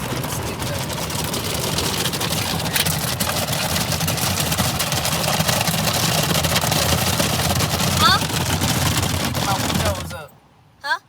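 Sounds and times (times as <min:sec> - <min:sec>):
car wash low rumble: 0:00.0 - 0:10.4.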